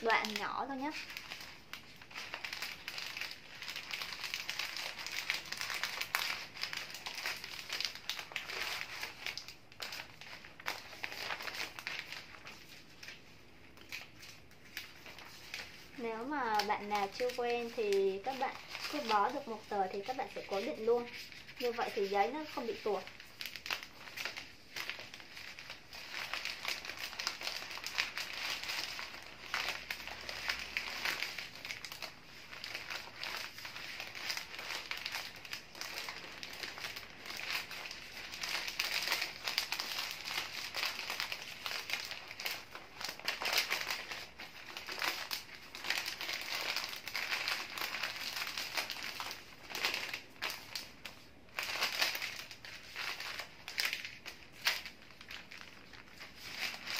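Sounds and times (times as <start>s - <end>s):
wrapping paper crinkling: 0.0s - 56.9s.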